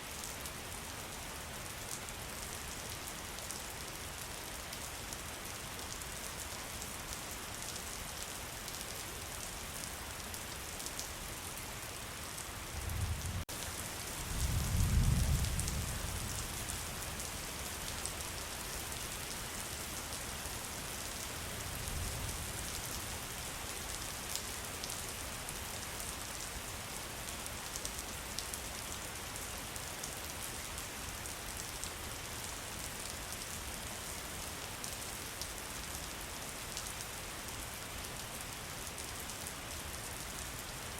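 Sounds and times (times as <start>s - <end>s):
heavy rainfall: 0.0s - 40.9s.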